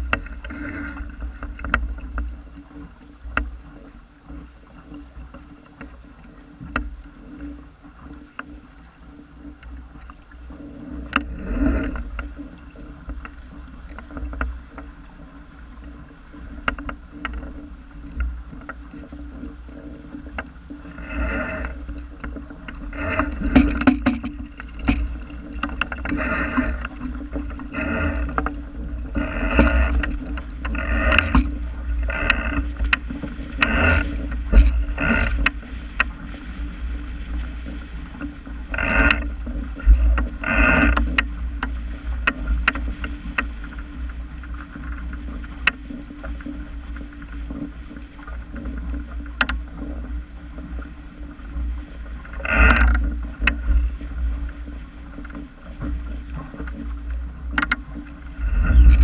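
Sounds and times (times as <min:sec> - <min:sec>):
water splashing against boat bow: 0:00.0 - 0:59.0
wind rumble on microphone: 0:00.0 - 0:59.0.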